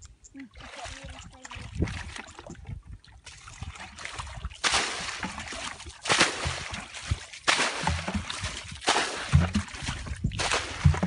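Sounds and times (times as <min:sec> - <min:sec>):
muddy water splashing: 0:00.3 - 0:11.0.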